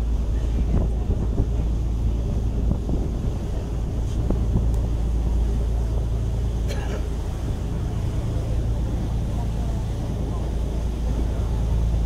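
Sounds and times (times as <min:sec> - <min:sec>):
boat engine droning: 0:00.0 - 0:12.0
wind buffeting microphone: 0:00.0 - 0:12.0.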